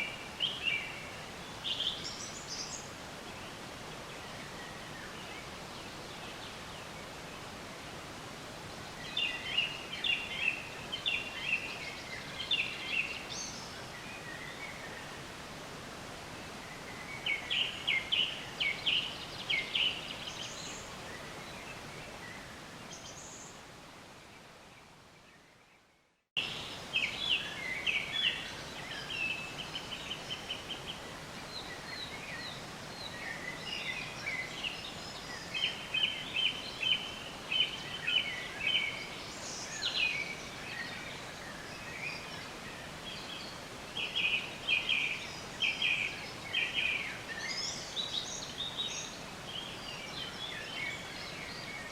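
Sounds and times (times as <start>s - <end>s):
background hiss: 0.0s - 51.9s
songbirds chirping and trilling: 0.0s - 51.9s.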